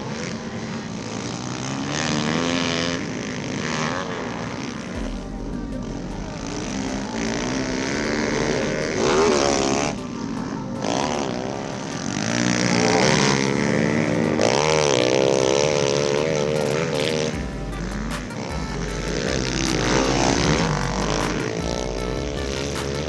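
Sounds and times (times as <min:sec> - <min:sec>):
pit bike engines revving: 0:00.0 - 0:23.0.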